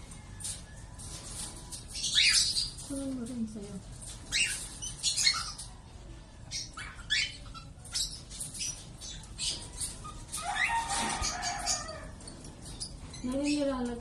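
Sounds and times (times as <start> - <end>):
lovebirds chirping and squawking: 0.0 - 14.0.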